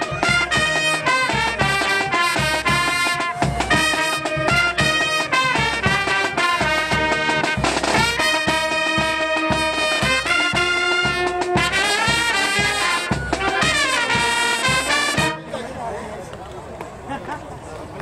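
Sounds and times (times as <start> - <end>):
steady drum beat: 0.0 - 15.5
trumpets and saxophones: 0.0 - 15.9.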